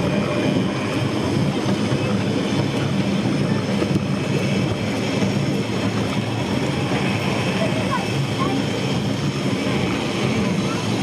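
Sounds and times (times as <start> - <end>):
cable tram rumbling on rails: 0.0 - 11.0.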